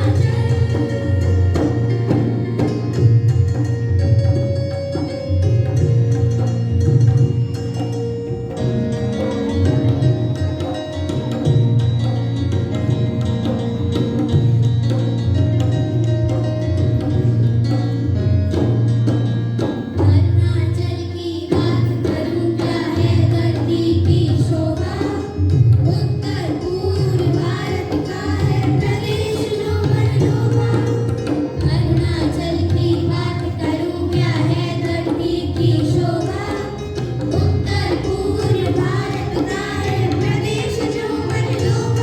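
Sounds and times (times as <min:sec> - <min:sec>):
folk dance music with drum beat: 0:00.0 - 0:42.0.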